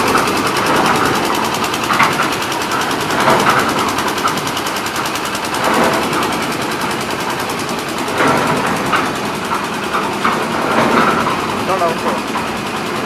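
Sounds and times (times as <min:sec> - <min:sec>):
concrete mixer engine clattering: 0:00.0 - 0:13.0.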